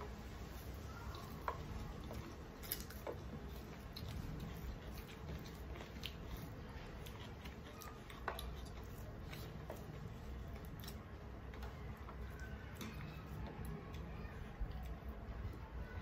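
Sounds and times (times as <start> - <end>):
chewing and mouth noises: 0.0 - 16.0
fingers squishing rice: 0.0 - 16.0.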